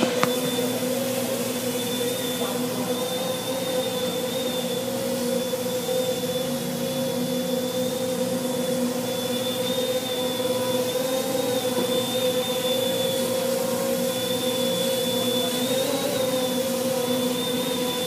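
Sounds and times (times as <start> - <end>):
drone motors and propellers humming: 0.0 - 18.0.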